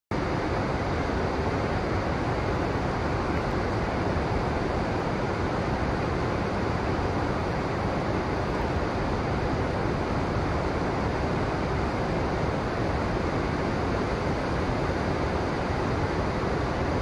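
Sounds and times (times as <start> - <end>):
river water rushing: 0.2 - 17.0.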